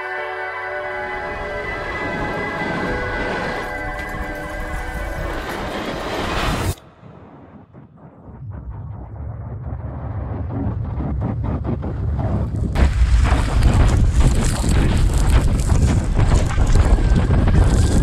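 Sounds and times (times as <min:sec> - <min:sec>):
rushing wind: 0:00.9 - 0:18.0
wind buffeting microphone: 0:01.2 - 0:18.0.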